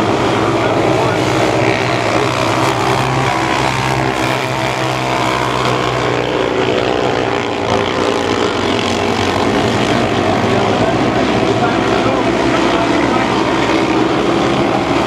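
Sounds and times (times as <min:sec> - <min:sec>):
small race car engines revving: 0:00.0 - 0:15.0.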